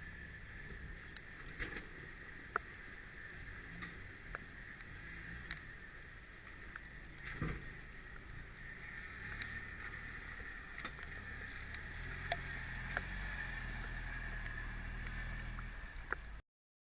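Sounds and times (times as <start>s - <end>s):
engine low rumble: 0.0s - 16.4s.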